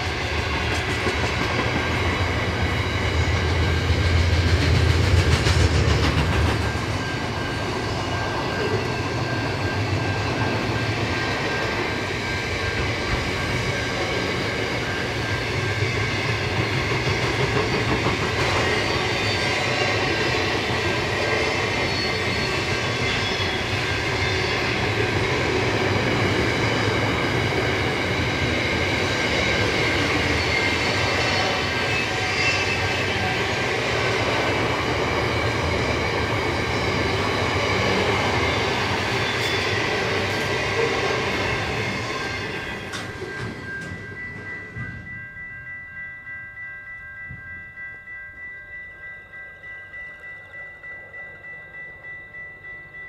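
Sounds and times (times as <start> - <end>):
diesel train engine drone: 0.0 - 53.0
wheels on rails: 0.0 - 53.0
high-pitched ring: 6.4 - 17.7, 18.4 - 53.0.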